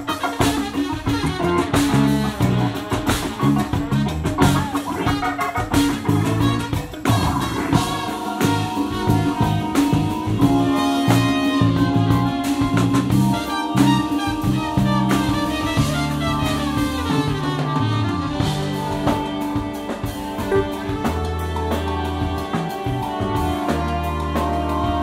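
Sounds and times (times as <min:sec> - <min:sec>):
drum kit beat: 0:00.0 - 0:25.0
electric bass: 0:00.0 - 0:25.0
trumpets and saxophone horn lines: 0:00.0 - 0:25.0.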